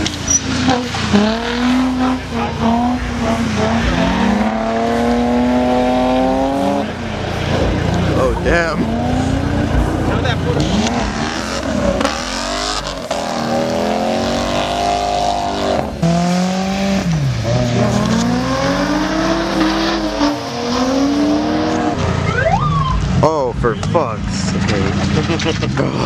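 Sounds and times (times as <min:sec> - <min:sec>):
car engine revving hard: 0:00.0 - 0:22.3.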